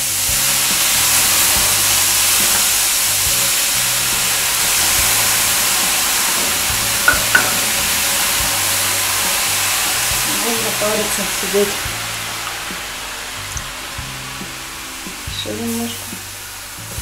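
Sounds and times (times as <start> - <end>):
water hissing on hot stones: 0.0 - 17.0.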